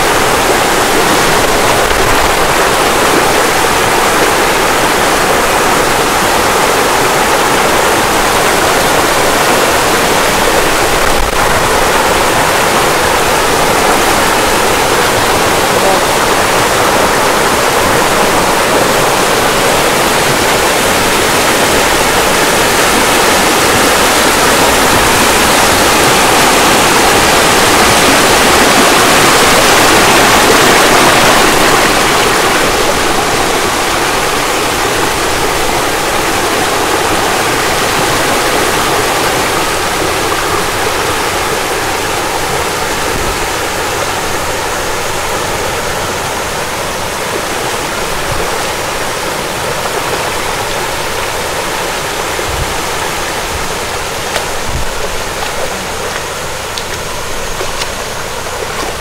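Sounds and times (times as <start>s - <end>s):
rushing water: 0.0s - 59.0s.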